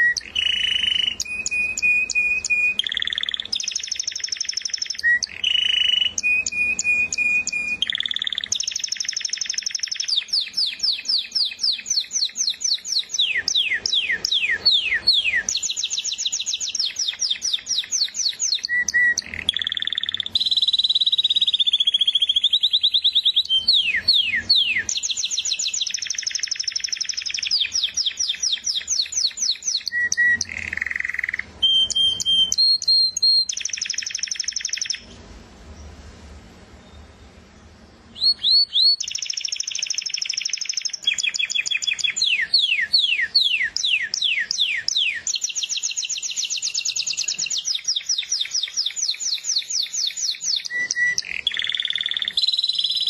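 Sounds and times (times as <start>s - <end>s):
canary singing trills: 0.0s - 35.9s, 36.8s - 53.0s.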